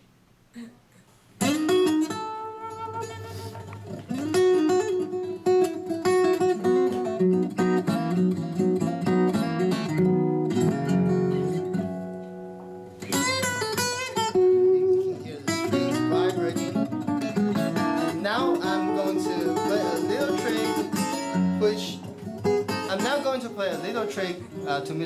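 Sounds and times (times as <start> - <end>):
guitar music through speaker: 1.4 - 25.0.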